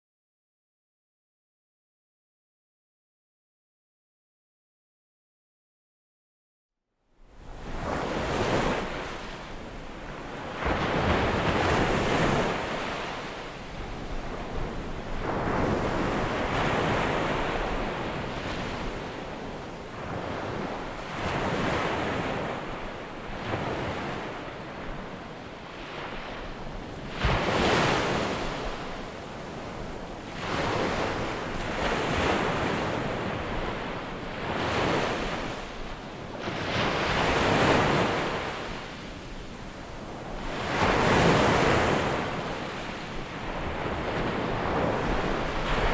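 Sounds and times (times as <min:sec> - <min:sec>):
ocean waves breaking: 0:07.4 - 0:45.9.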